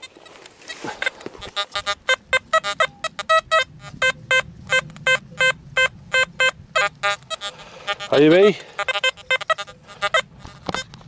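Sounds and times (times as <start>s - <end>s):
metal detector short beeps: 0.7s - 10.9s.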